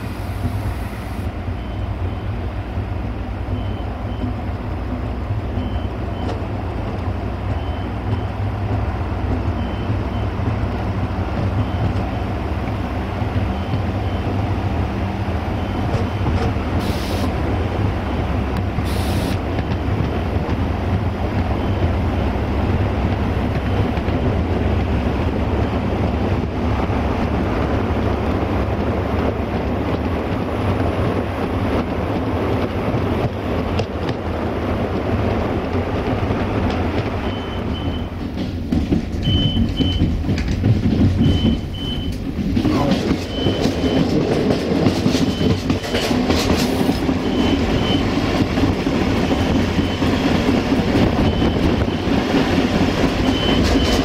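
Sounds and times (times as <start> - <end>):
diesel railcar engine drone: 0.0 - 54.0
wheel and rail noise: 0.0 - 54.0.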